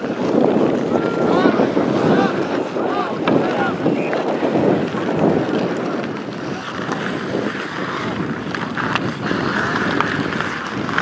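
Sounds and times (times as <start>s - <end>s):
distant ice hockey play: 0.0s - 11.0s
hockey sticks clacking on puck: 0.0s - 11.0s
wind buffeting microphone: 0.0s - 11.0s.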